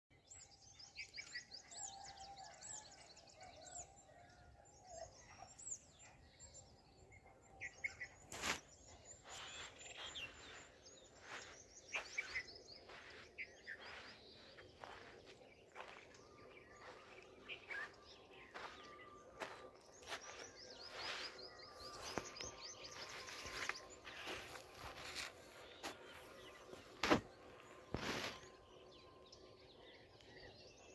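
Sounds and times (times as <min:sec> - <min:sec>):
small birds chirping: 0:05.0 - 0:30.9.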